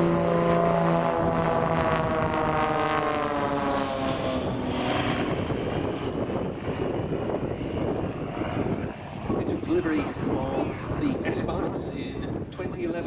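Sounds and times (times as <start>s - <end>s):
propeller plane passing by: 0.0s - 13.0s.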